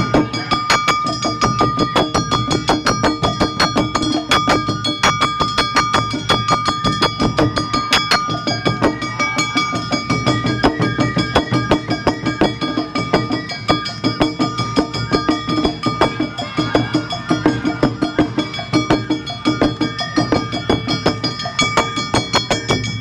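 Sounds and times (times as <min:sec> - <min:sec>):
drums in quick rhythm: 0:00.0 - 0:23.0.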